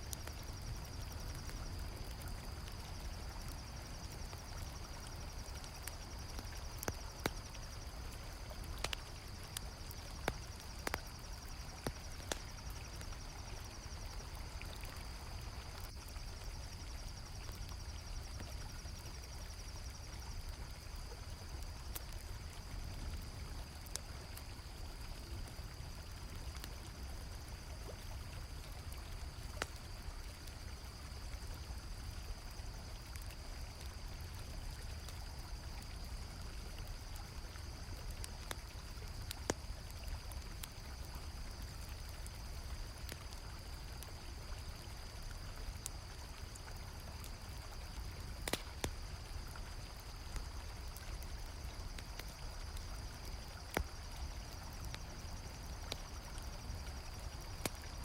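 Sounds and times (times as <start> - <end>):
campfire crackles and pops: 0.0 - 58.0
crickets chirring: 0.0 - 58.0.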